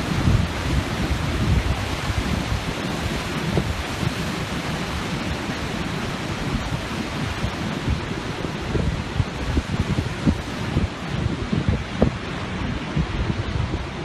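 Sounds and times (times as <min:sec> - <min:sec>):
ocean surf roaring: 0:00.0 - 0:14.0
wind buffeting microphone: 0:00.0 - 0:14.0.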